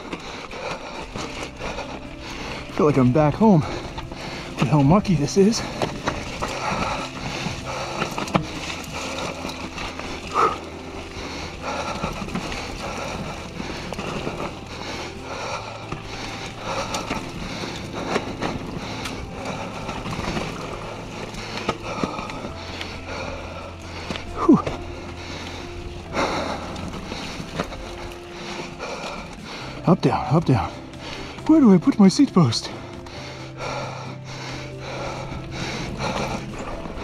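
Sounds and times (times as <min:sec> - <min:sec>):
bike rattling and knocking: 0:00.0 - 0:37.0
bike tyres on dirt trail: 0:00.0 - 0:37.0.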